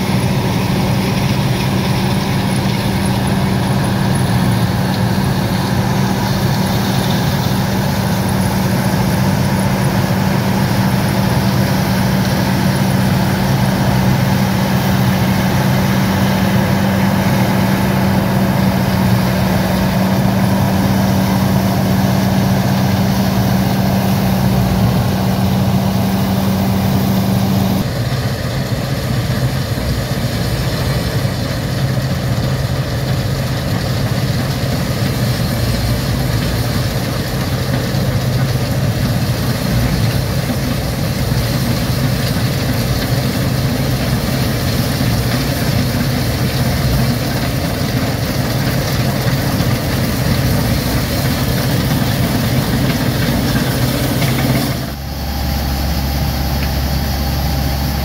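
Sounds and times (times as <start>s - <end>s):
combine harvester drone: 0.0s - 58.0s
steady machine hum: 0.0s - 58.0s.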